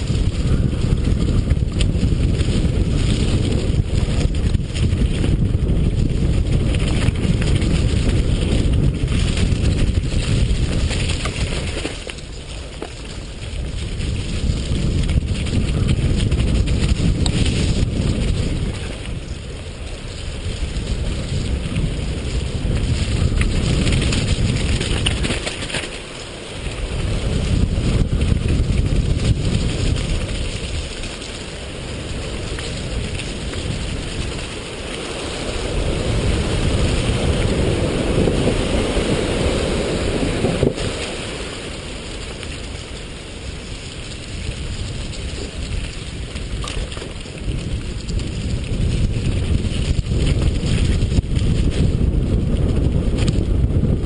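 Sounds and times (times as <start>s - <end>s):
tyres rolling over dirt: 0.0s - 54.0s
wind rushing on microphone: 0.0s - 54.0s.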